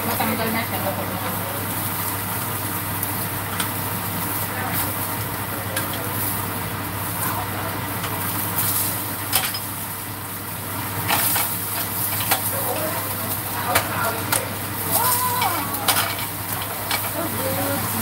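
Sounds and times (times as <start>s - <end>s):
food sizzling in hot oil: 0.1s - 18.0s.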